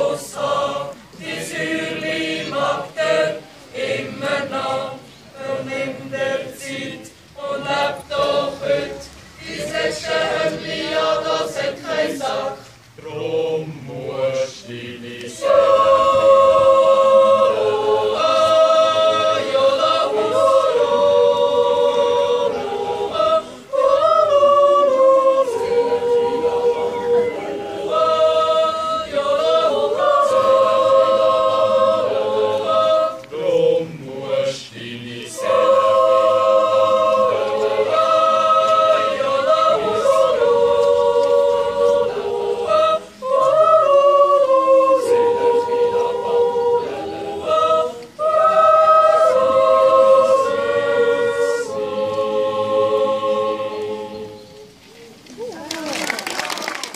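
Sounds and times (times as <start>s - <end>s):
choir singing a cappella: 0.0s - 54.8s.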